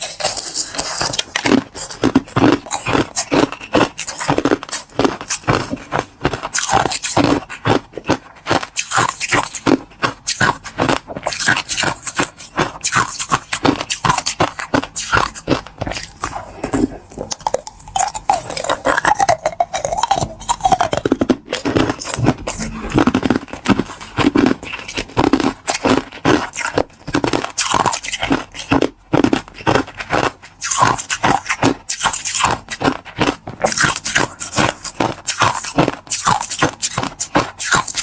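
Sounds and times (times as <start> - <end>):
crunching and chewing ice: 0.0 - 38.0
wet mouth sounds: 0.0 - 38.0.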